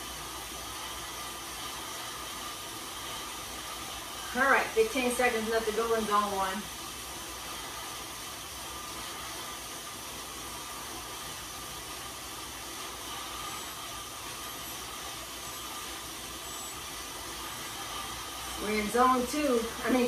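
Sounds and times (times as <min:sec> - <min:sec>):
bike tyres whirring on rollers: 0:00.0 - 0:20.0.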